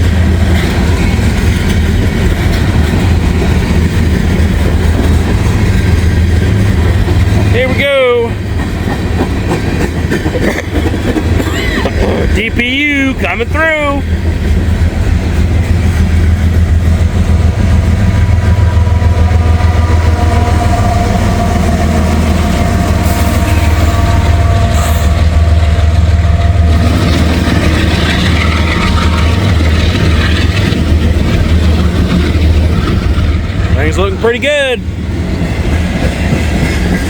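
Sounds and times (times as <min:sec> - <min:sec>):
locomotive engine drone: 0:00.0 - 0:37.0.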